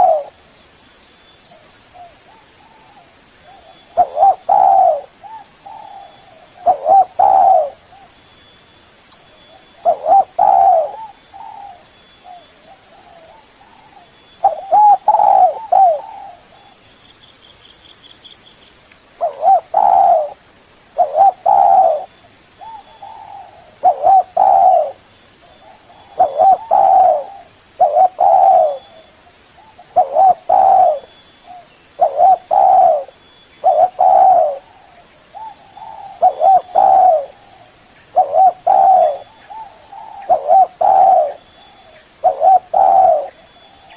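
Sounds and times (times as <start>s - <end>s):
dove cooing: 0.0s - 0.4s, 1.6s - 8.2s, 9.5s - 16.8s, 19.2s - 20.4s, 21.0s - 43.9s.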